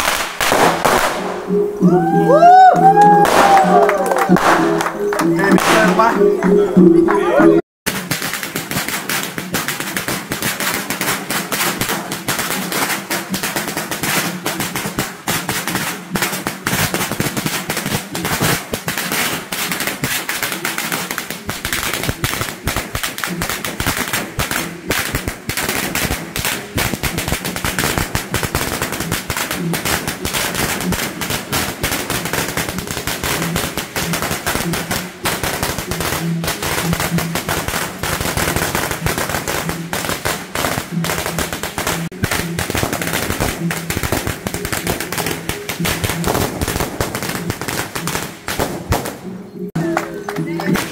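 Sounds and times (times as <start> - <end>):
firecrackers crackling: 0.0 - 50.9.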